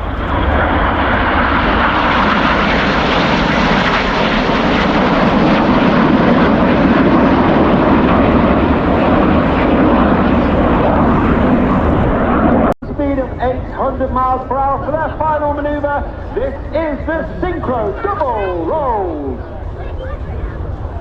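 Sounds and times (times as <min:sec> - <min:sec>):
jet noise: 0:00.0 - 0:21.0.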